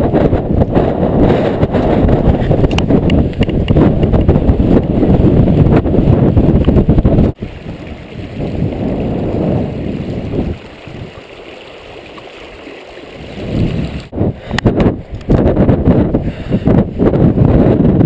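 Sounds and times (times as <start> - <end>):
stream gurgling over stones: 0.1 - 15.5.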